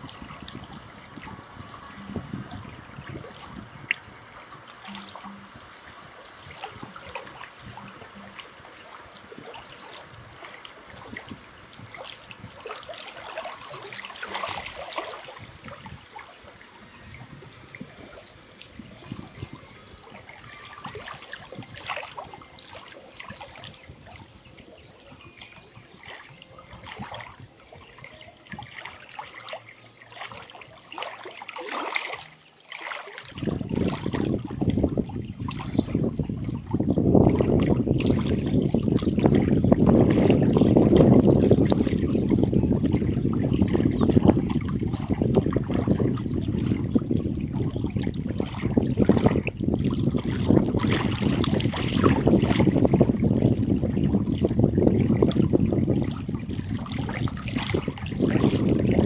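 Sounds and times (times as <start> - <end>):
small waves lapping on rocks: 0.0 - 59.0.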